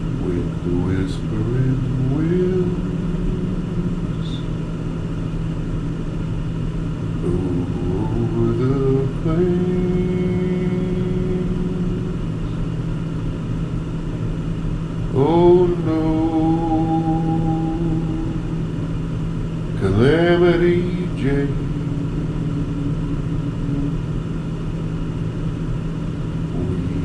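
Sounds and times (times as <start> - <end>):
car engine and road drone: 0.0 - 27.0.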